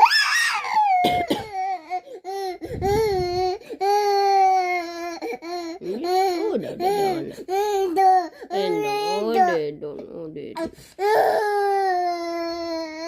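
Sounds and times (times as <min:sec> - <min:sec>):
baby crying: 0:00.0 - 0:09.6, 0:11.0 - 0:13.0.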